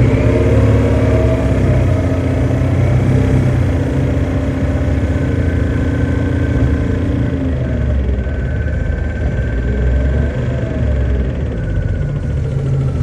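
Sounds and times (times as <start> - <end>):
bus drivetrain hum: 0.0 - 13.0.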